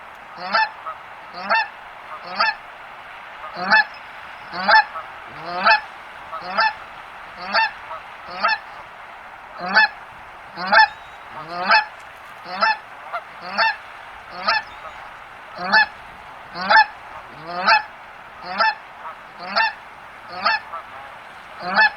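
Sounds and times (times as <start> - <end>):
goose honking: 0.0 - 2.6, 3.2 - 9.0, 9.6 - 21.9
steady background hiss: 0.0 - 21.9.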